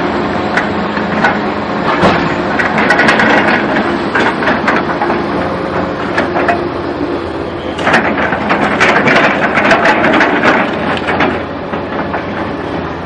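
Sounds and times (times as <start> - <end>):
knocks and clatter: 0.5 - 6.7, 7.8 - 12.8.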